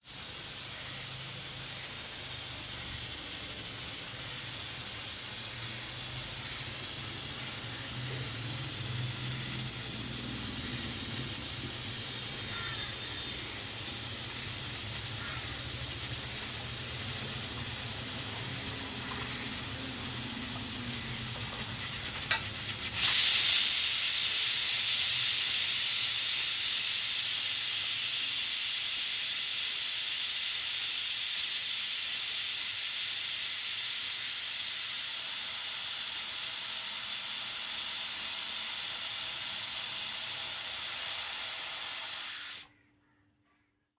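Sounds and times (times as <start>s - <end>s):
pressure cooker hissing steam: 0.0s - 42.7s.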